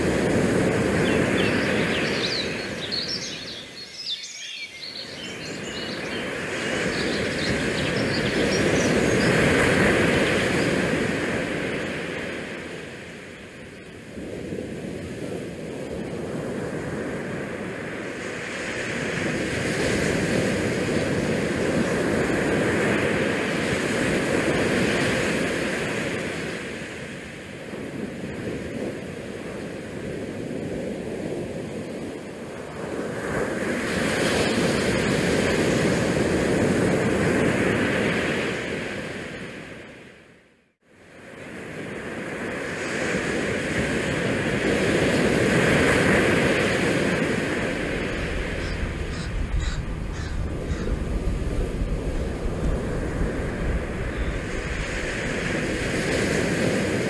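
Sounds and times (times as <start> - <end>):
wind gusting over microphone: 0.0 - 40.0, 41.0 - 57.0.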